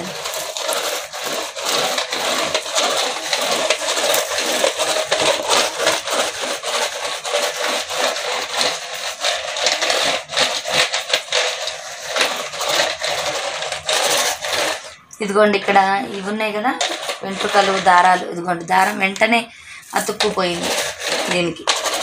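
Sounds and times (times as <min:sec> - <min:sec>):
roller brush sweeper on mat: 0:00.0 - 0:22.0.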